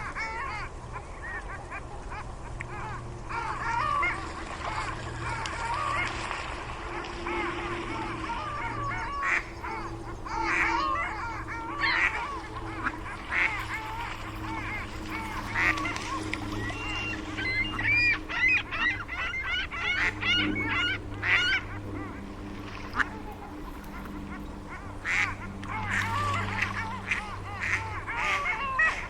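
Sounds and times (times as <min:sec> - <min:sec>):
steady low hum: 0:00.4 - 0:29.0
geese honking: 0:01.2 - 0:29.0.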